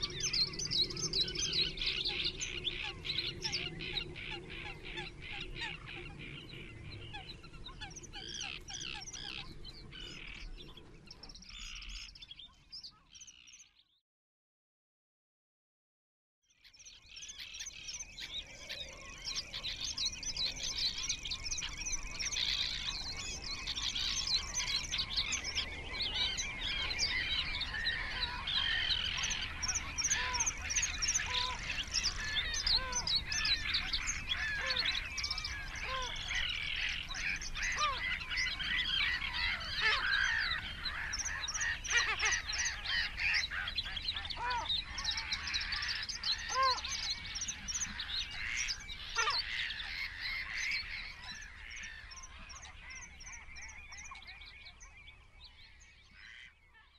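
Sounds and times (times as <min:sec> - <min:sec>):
chorus of birds chirping: 0:00.0 - 0:14.0, 0:16.5 - 0:56.9.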